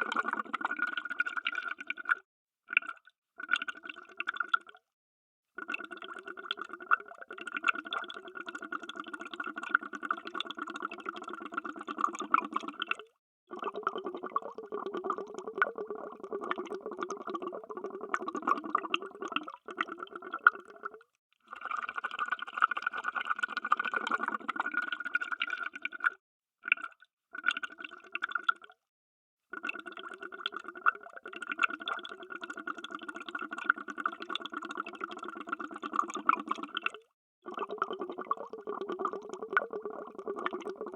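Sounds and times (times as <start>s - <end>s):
underwater bubbling and gurgling: 0.0s - 4.7s, 5.6s - 28.7s, 29.6s - 40.9s.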